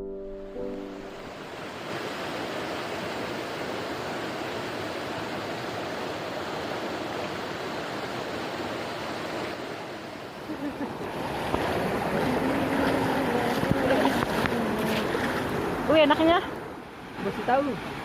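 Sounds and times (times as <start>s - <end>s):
fast-flowing water rushing: 0.8s - 18.0s.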